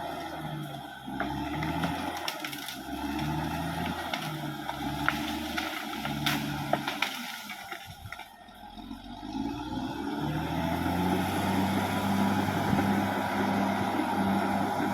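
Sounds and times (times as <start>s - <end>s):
bulldozer diesel engine working: 0.0s - 14.9s.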